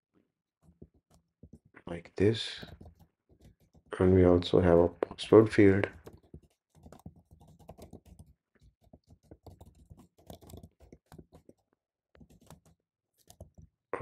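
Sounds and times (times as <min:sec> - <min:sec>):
faint typing on keyboard: 0:00.6 - 0:14.0.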